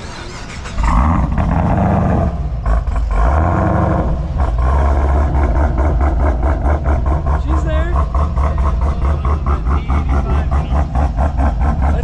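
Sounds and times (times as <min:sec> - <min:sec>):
car engine running loud: 0:00.0 - 0:12.0.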